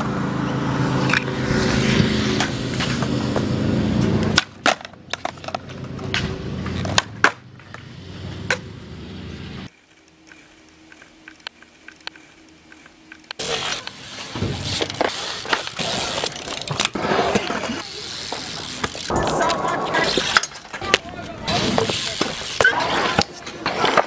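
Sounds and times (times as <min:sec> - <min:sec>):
skateboard wheels rolling on concrete: 0:00.0 - 0:24.0.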